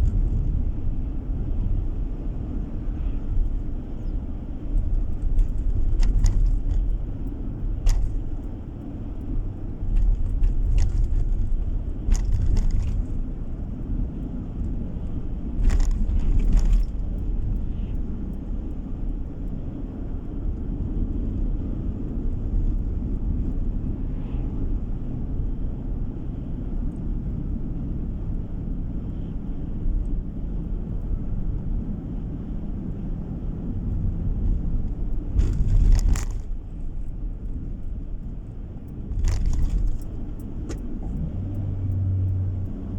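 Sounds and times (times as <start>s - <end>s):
car interior road rumble: 0.0s - 42.9s.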